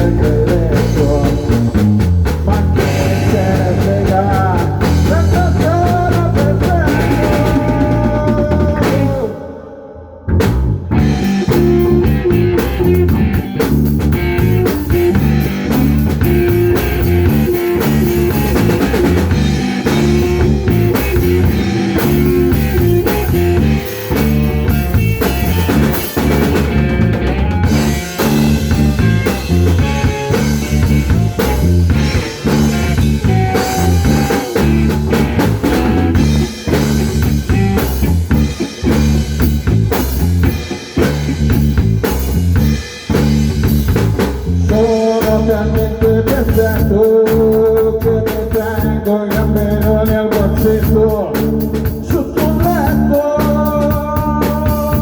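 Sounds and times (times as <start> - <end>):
instrumental rock band: 0.0 - 55.0.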